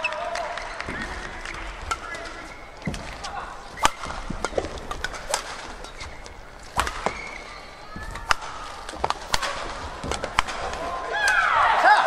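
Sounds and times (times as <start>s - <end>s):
shoes squeaking on court: 0.0s - 11.0s
rackets striking shuttlecock: 0.3s - 11.5s.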